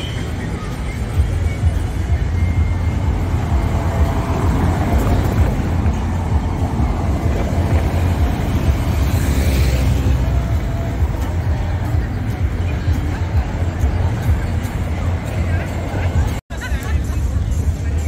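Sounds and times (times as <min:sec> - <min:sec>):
cars driving on cobblestones: 0:00.0 - 0:18.0
low traffic rumble: 0:00.0 - 0:18.0.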